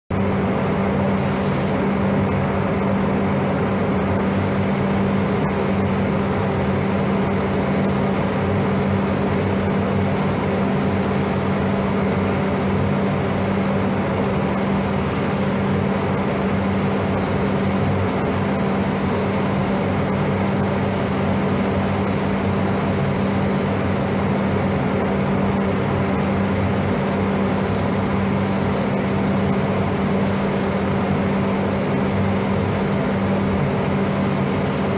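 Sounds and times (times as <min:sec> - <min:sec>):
ventilation fans humming: 0:00.1 - 0:34.9.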